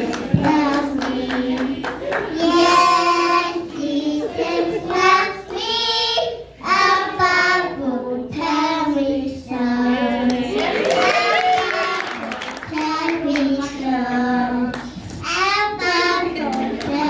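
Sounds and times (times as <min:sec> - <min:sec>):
children singing together: 0:00.0 - 0:10.6, 0:11.7 - 0:17.0.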